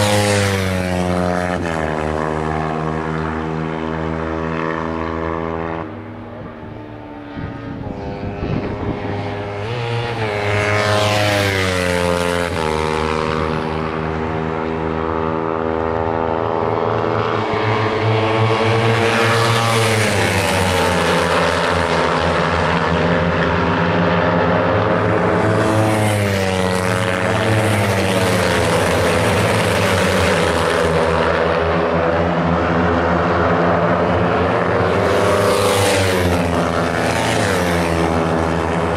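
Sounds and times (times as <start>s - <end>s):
motorcycles passing at speed: 0.0s - 38.9s.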